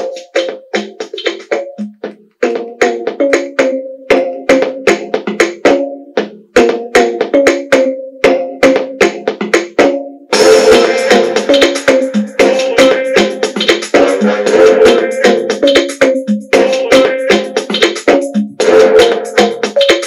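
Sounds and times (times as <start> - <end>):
percussive pitched music: 0.0 - 20.0.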